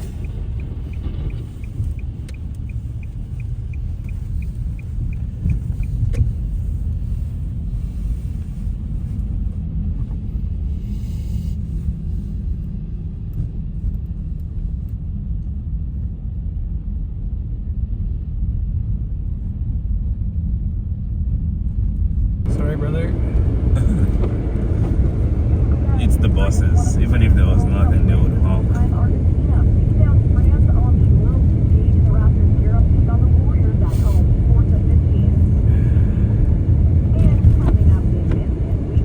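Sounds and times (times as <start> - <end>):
car cabin road rumble: 0.0 - 39.0.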